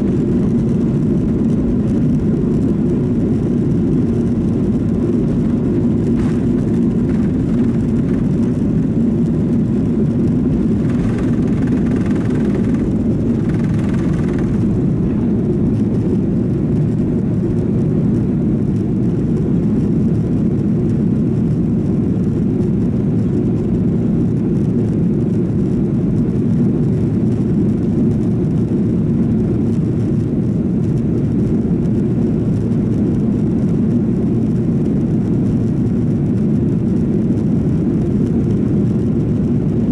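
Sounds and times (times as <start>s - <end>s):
jet engines heard from cabin: 0.0s - 39.9s.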